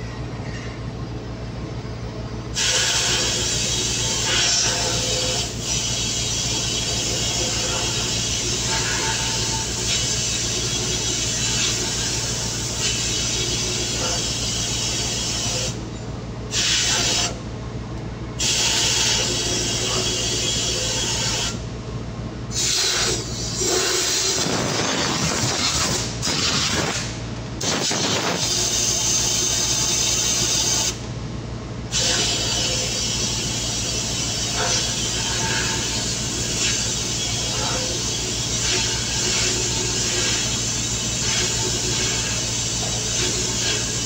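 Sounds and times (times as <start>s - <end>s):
machinery low hum: 0.0s - 44.0s
machinery hiss: 2.5s - 15.8s, 16.5s - 17.4s, 18.4s - 21.6s, 22.5s - 31.0s, 31.9s - 44.0s.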